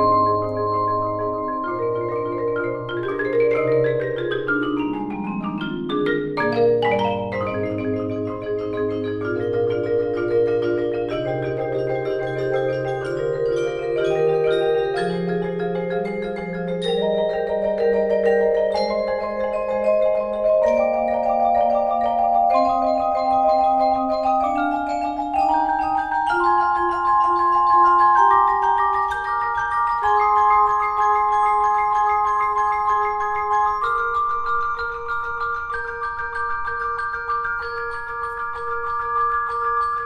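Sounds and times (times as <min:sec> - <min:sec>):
marimbas and vibraphones playing chords: 0:00.0 - 0:40.0.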